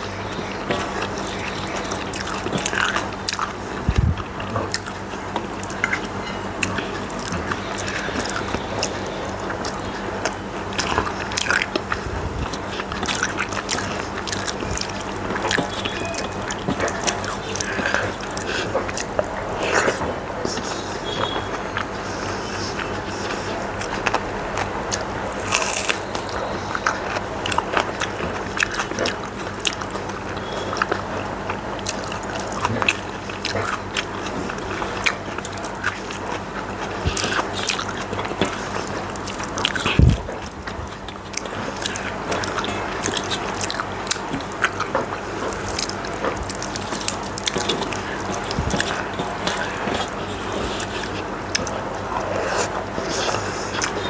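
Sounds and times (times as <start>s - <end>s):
chewing food: 0.0s - 54.0s.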